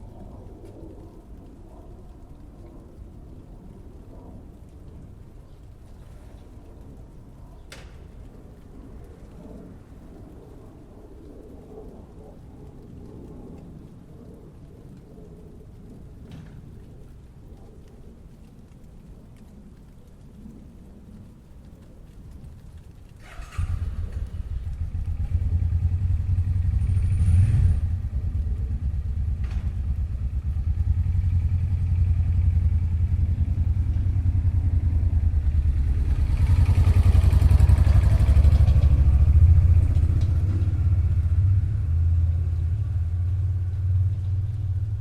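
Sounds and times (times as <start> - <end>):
vehicle engine low rumble: 0.0 - 45.0.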